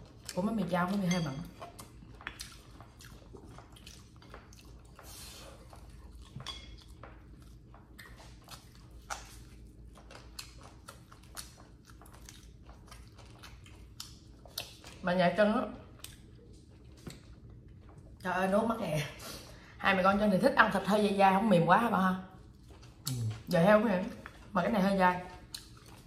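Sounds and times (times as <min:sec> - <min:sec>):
chewing meat: 0:00.0 - 0:18.8, 0:21.5 - 0:26.0.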